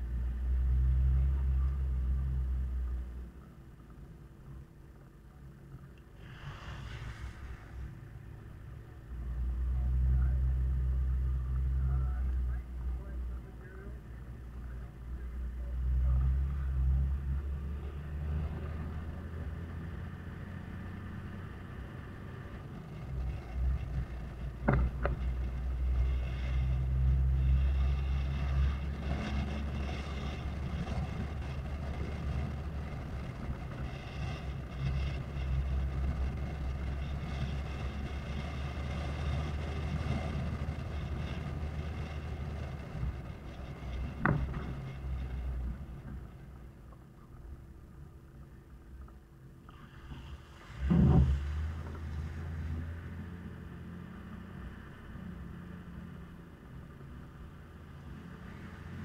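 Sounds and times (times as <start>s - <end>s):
diesel engine drone: 0.0s - 59.0s
road and body noise: 0.0s - 59.0s.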